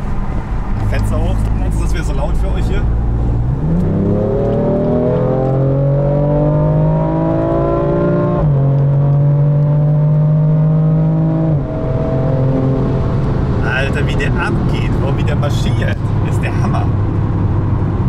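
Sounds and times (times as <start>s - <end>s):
car engine accelerating hard: 0.7s - 18.0s.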